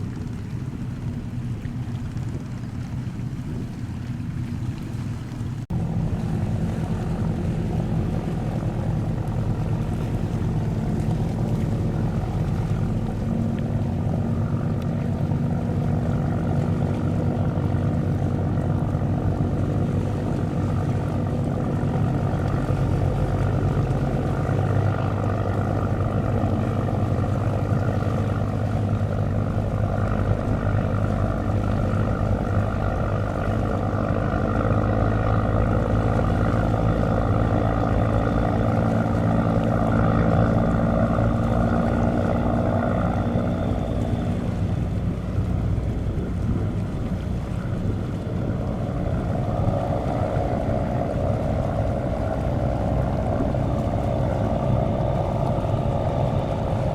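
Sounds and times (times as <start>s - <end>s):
boat diesel engines running: 0.0s - 56.9s.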